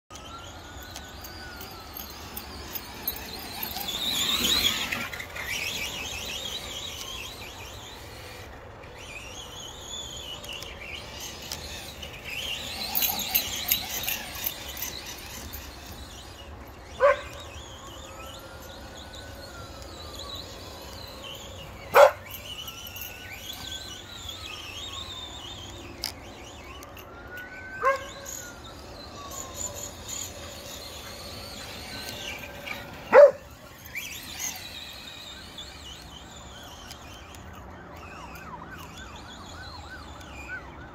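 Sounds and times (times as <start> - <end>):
electric motor whining: 0.1 - 40.9.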